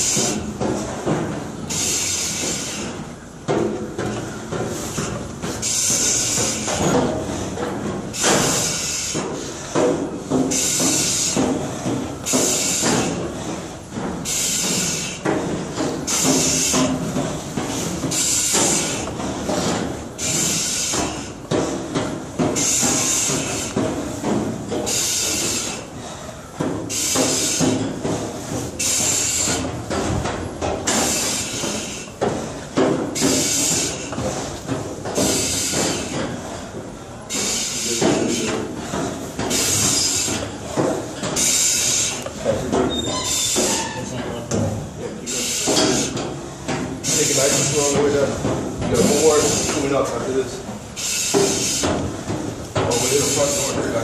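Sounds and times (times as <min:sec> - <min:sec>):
heavy rhythmic breathing hiss: 0:00.0 - 0:43.9, 0:44.8 - 0:54.0.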